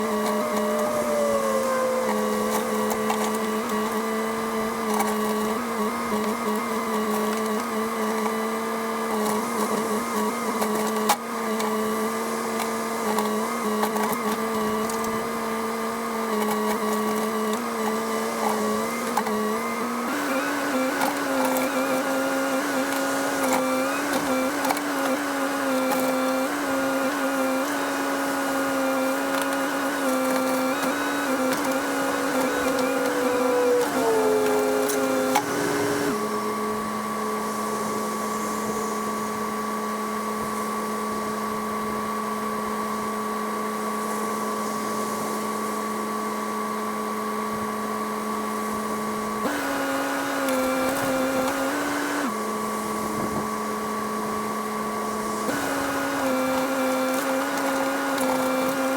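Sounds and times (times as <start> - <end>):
excavator engine whine: 0.0 - 58.9.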